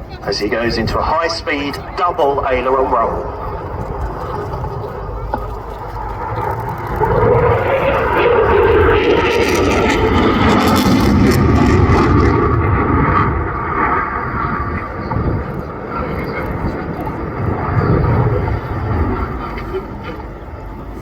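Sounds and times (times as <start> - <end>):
jet engines on fast pass: 0.3 - 21.0.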